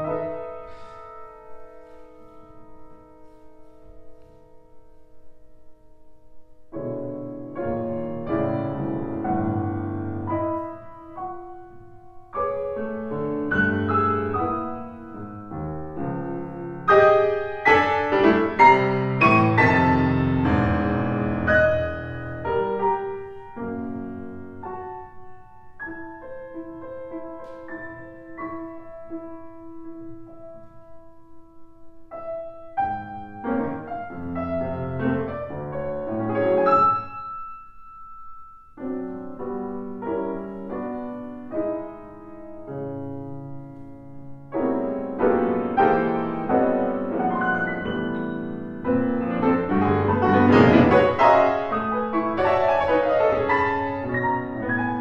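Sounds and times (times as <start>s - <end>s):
solo grand piano: 0.0s - 55.0s.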